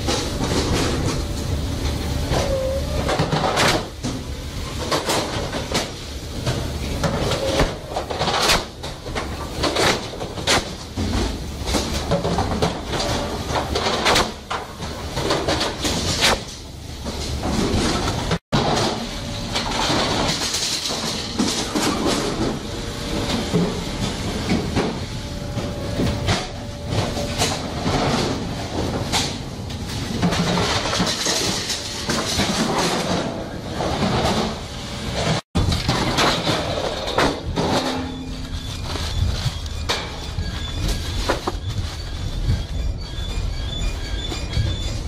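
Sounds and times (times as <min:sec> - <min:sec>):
machinery and conveyor rumbling: 0:00.0 - 0:45.0.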